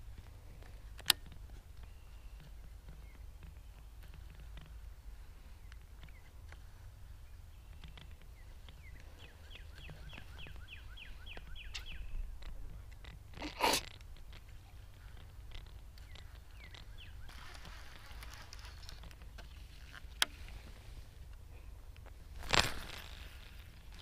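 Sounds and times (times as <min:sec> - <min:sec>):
faint outdoor background noise: 0:00.0 - 0:24.0
soft rustling hiss: 0:00.0 - 0:24.0
songbird chirping: 0:00.0 - 0:24.0.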